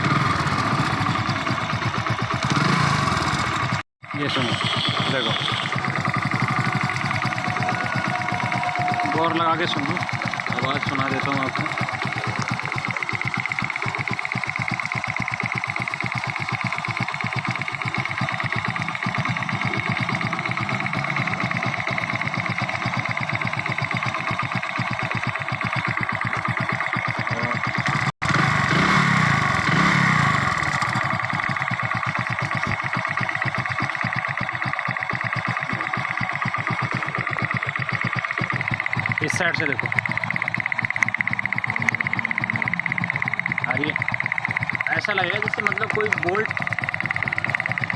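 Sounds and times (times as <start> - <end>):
fast even ticking rattle: 0.0 - 47.9
motorcycle engine idling: 0.0 - 47.9.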